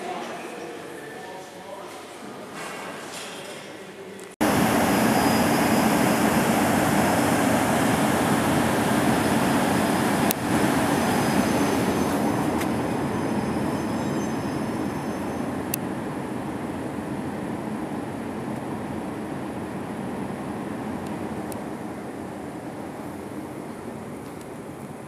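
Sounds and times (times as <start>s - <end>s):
train rumbling on rails: 4.4s - 25.0s.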